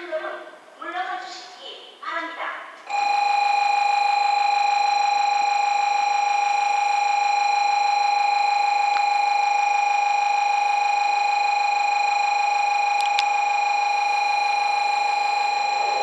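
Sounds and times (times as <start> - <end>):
platform warning alarm tone: 2.9 - 16.0.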